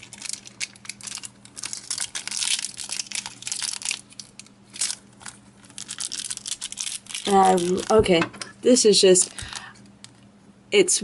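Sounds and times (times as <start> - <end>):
foil wrapper crinkling: 0.0 - 8.2, 9.1 - 10.2.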